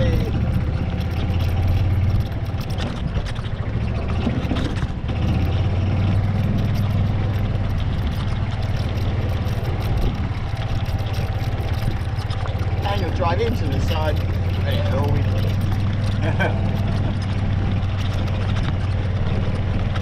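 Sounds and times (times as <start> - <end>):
buggy engine running: 0.0 - 20.0
light knocks and rattles: 0.0 - 20.0.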